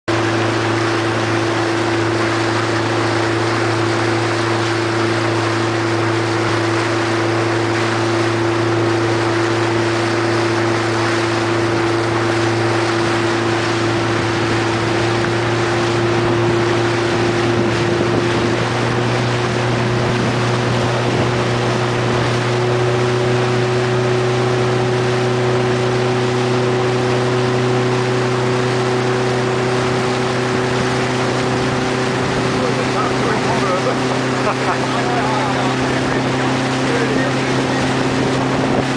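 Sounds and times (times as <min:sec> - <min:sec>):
outboard motor humming: 0:00.0 - 0:38.9
wind and water rushing: 0:00.1 - 0:38.9.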